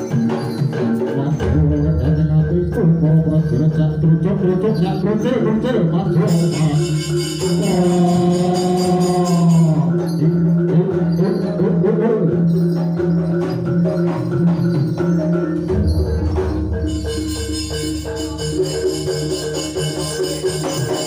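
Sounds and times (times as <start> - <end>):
gong and bell-like percussion: 0.0 - 21.0
wavering melodic line: 1.8 - 21.0.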